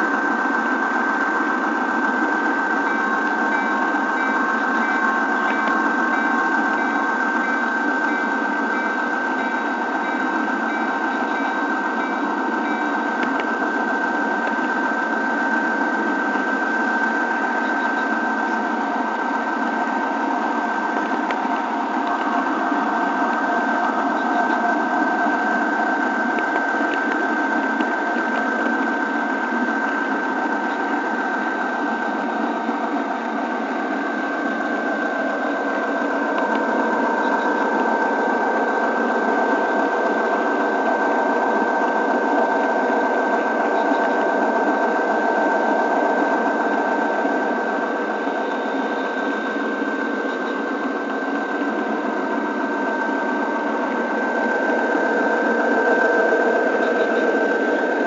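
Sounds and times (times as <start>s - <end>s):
model train motor hum: 0.0s - 58.0s.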